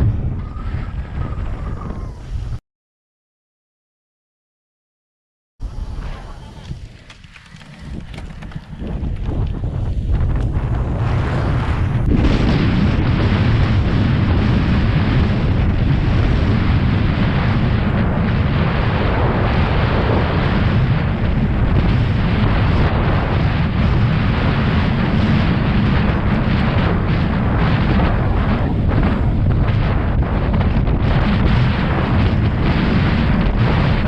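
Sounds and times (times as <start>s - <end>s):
wind buffeting microphone: 0.0s - 2.6s, 5.6s - 34.0s.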